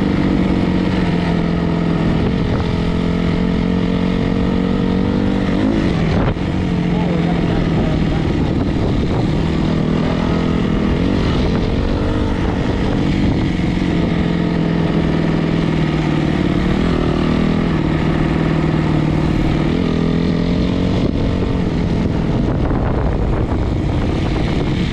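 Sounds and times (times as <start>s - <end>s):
dirt bike engine running: 0.0s - 24.9s.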